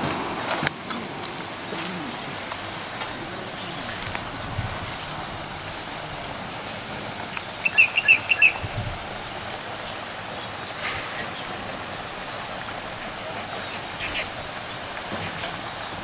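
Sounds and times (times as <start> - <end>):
steady outdoor hiss: 0.0 - 16.0
bird chirping: 1.5 - 16.0.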